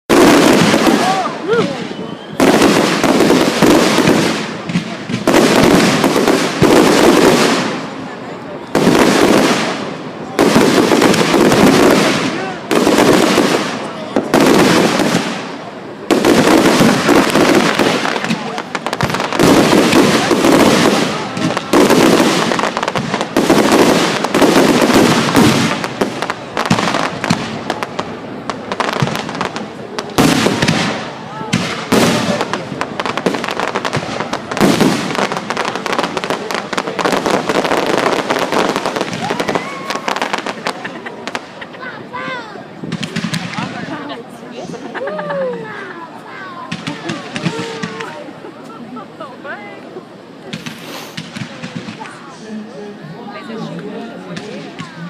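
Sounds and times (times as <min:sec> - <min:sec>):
fireworks bursting with bangs: 0:00.1 - 0:52.7, 0:53.7 - 0:55.0
fireworks crackling: 0:00.1 - 0:55.0.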